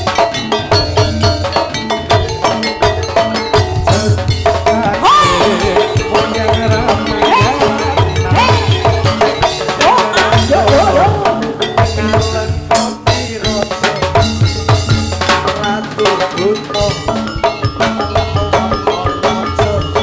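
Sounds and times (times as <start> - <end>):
clattering percussion: 0.0 - 20.0
fast drum beat: 0.0 - 20.0
gamelan music over sound system: 0.0 - 20.0
wavering melodic line: 0.0 - 20.0.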